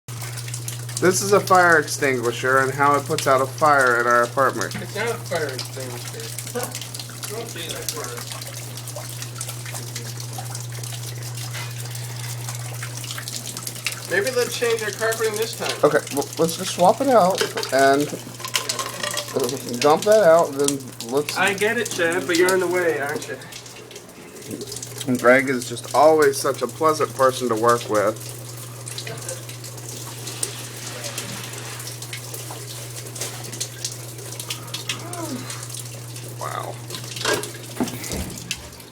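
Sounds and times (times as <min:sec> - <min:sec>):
water drips: 0:00.1 - 0:38.9
water pouring and splashing: 0:00.1 - 0:38.9.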